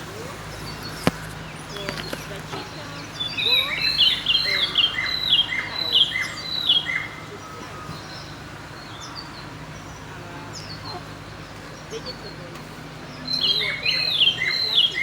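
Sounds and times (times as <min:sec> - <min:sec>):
faint chirps from other birds: 0:00.0 - 0:15.0
bird chirping rapidly: 0:00.4 - 0:15.0.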